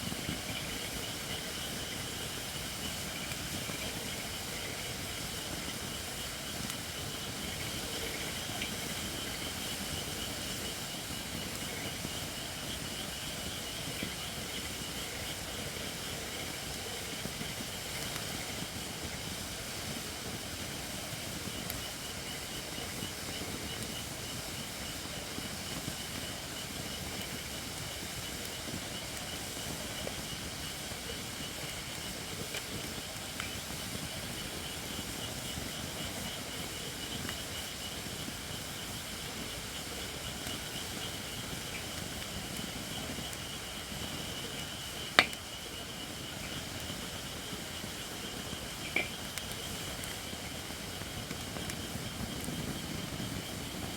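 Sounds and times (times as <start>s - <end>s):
faint fire crackles: 0.0s - 53.9s
logs burning with steam hiss: 0.0s - 53.9s.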